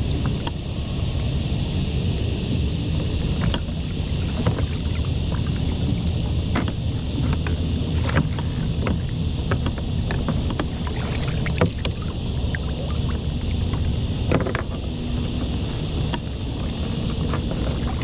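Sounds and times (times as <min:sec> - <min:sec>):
wind rumble on microphone: 0:00.0 - 0:18.0
water splashing and dripping: 0:03.4 - 0:18.0.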